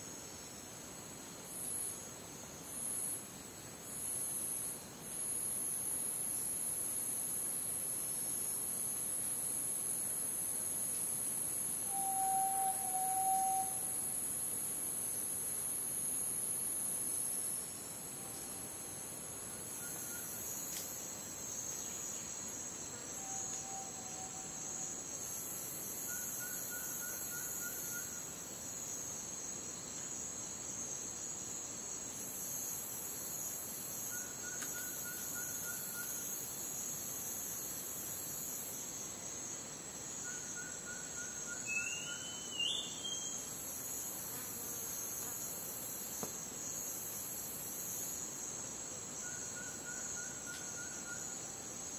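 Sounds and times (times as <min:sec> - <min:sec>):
crickets chirring: 0:00.0 - 0:51.9
high buzzing insect chorus: 0:00.0 - 0:51.9.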